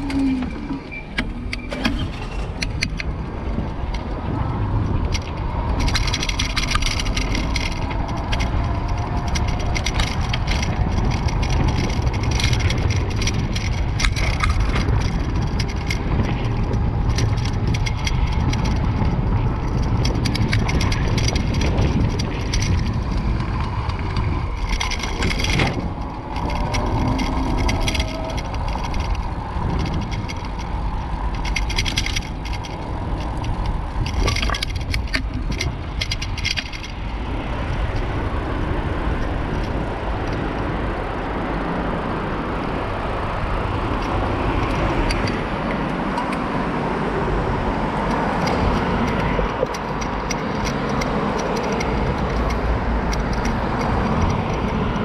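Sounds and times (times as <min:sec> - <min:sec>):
bicycle rattling over paving: 0:00.0 - 0:55.0
low wind rumble: 0:00.0 - 0:55.0
passing road traffic: 0:00.0 - 0:55.0
tyre noise: 0:00.0 - 0:55.0.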